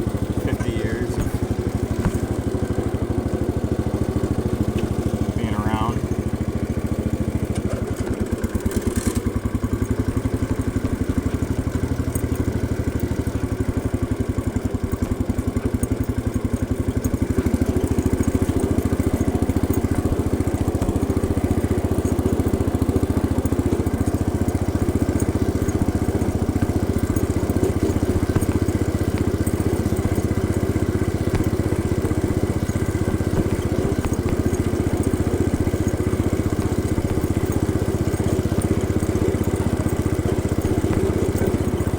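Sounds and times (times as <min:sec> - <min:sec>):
garden tractor engine running: 0:00.0 - 0:41.9.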